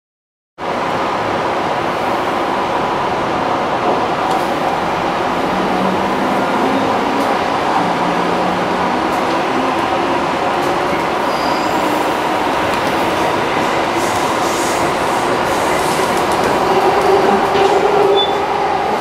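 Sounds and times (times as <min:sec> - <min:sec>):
train wheels rumbling on rail: 0:00.6 - 0:19.0.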